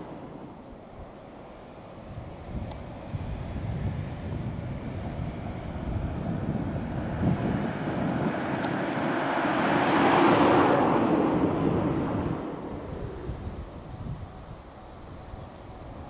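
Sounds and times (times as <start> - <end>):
diesel railcar passing: 0.0 - 16.0.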